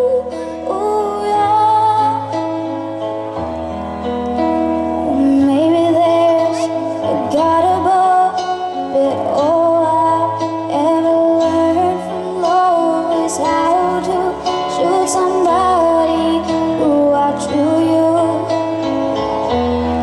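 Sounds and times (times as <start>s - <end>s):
woman singing slow song: 0.0s - 2.4s, 5.0s - 18.6s
instrumental chords and bass: 0.0s - 20.0s.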